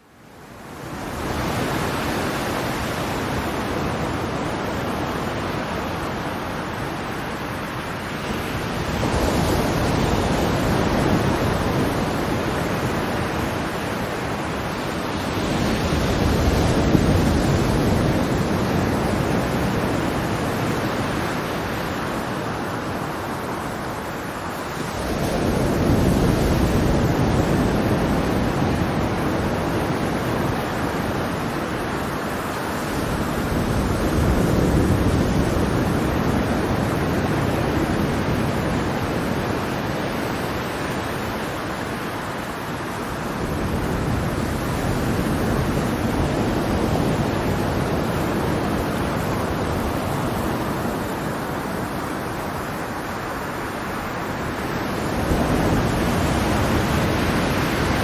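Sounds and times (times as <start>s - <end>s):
ocean waves washing ashore: 0.0s - 58.0s.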